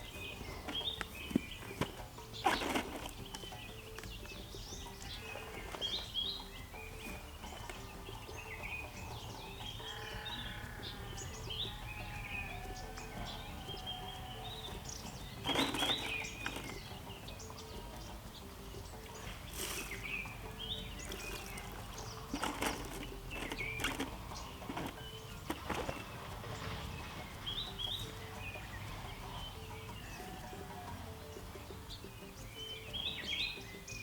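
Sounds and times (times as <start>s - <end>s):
faint background music: 0.0s - 34.0s
small birds chirping: 0.0s - 34.0s.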